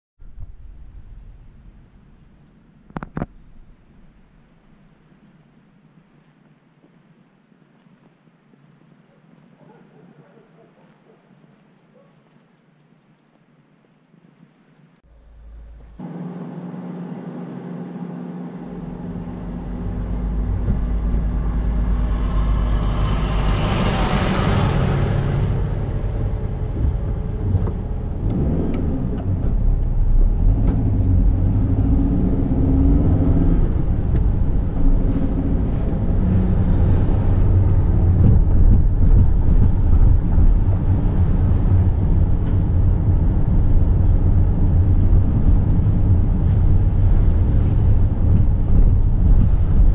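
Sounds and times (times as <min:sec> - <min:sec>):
car engine and road rumble: 0:00.2 - 0:07.4, 0:14.8 - 0:49.9.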